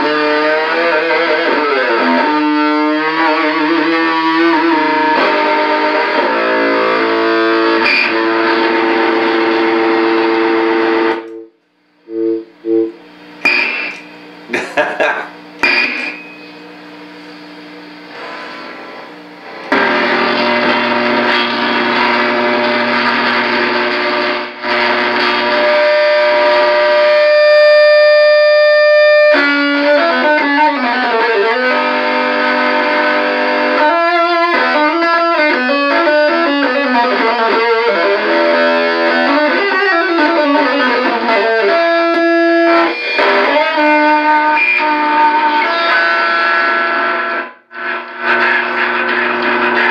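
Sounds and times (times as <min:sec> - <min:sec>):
fuzzy distorted electric guitar: 0:00.0 - 0:49.9.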